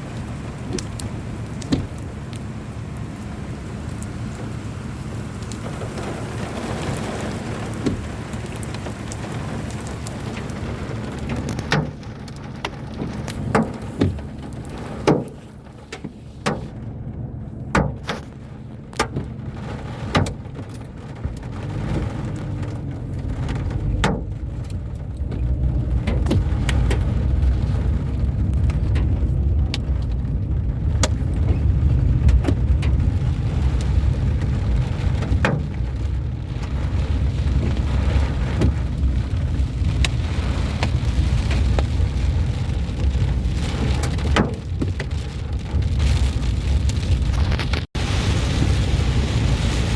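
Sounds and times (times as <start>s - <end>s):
engine and tyre rumble: 0.0s - 49.9s
raindrops ticking on car: 0.0s - 49.9s.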